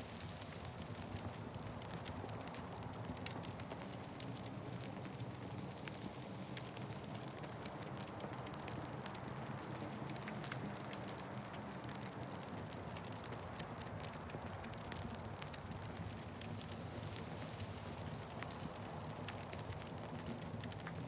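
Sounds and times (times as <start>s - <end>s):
fire crackling and popping: 0.1s - 21.0s.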